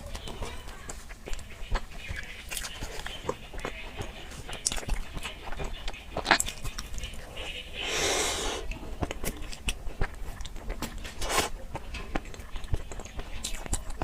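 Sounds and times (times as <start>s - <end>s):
chewing with crackles and bites: 0.0s - 14.0s.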